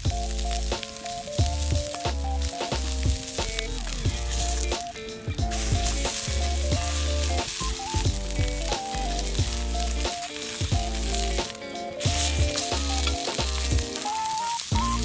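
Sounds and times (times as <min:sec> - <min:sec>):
background music with bass line: 0:00.0 - 0:14.0, 0:14.7 - 0:15.0
food sizzling in a pan: 0:00.0 - 0:15.0.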